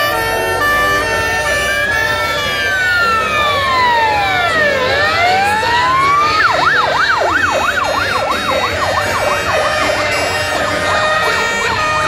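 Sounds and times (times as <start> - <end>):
fire engine siren: 0.0 - 12.0.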